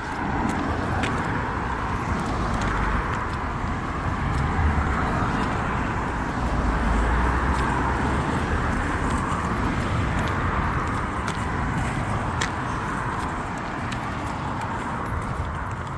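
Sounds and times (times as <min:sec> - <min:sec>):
cars driving past: 0:00.0 - 0:15.9.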